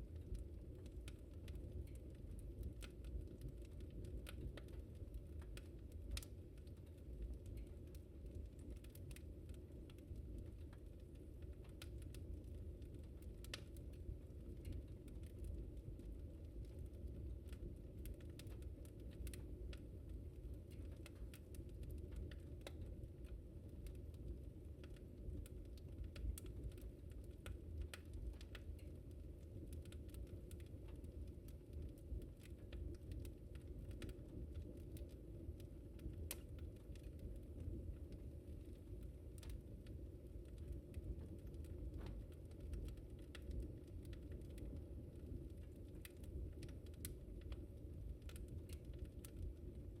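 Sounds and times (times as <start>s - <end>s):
fire pops and snaps: 0.0s - 50.0s
low rumble of burning fire: 0.0s - 50.0s.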